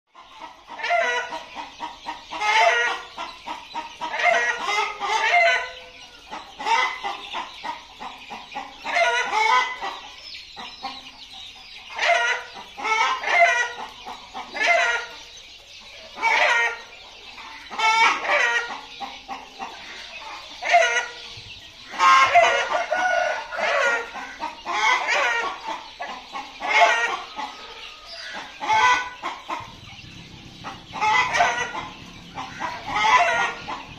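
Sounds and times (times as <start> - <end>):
chickens clucking and calling: 0.1 - 33.9.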